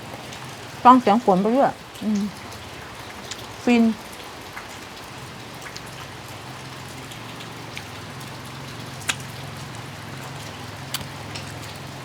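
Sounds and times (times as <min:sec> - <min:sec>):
drips: 0:00.0 - 0:12.0
steady rain falling: 0:00.0 - 0:12.0.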